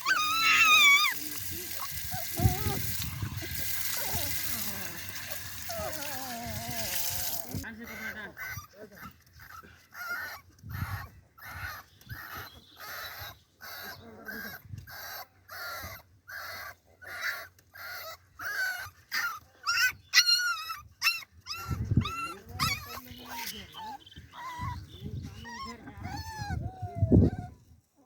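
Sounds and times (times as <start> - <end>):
puppy crying and whining: 0.0 - 7.7, 8.4 - 27.6.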